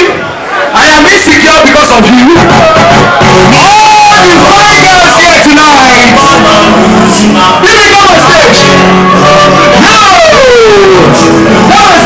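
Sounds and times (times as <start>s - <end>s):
loud music: 0.0s - 12.0s.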